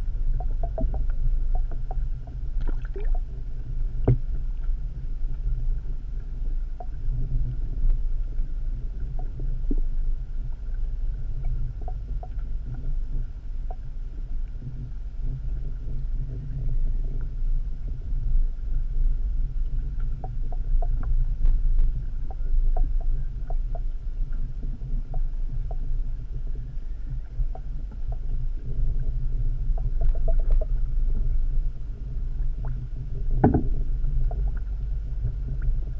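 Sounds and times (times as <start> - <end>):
faint underwater clicks: 0.0 - 35.9
underwater low rumble: 0.0 - 35.9.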